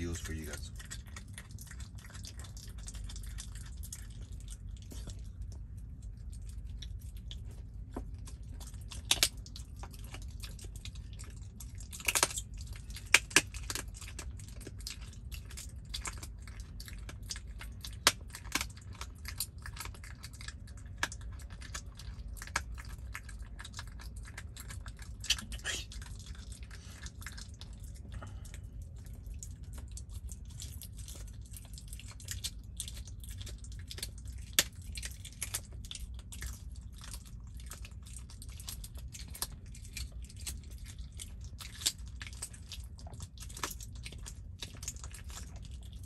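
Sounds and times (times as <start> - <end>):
fox crunching on bone: 0.0 - 46.0
low steady rumble: 0.0 - 46.0.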